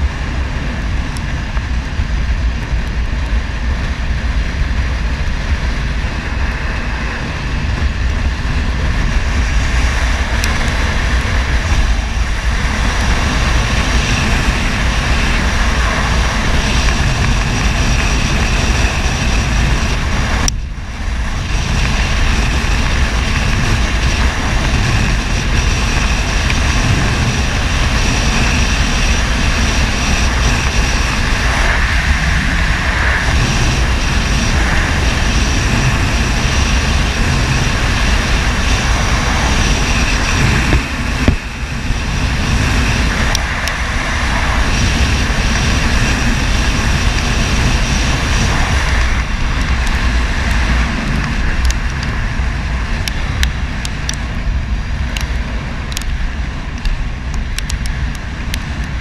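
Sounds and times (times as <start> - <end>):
motorbike engine droning: 0.0 - 59.0
wind roaring over microphone: 0.0 - 59.0.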